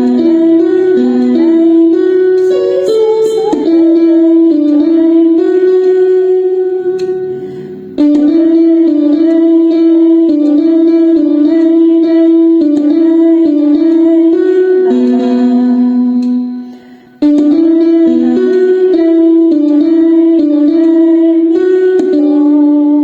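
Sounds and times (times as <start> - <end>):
slow melody in long held notes: 0.0 - 23.0.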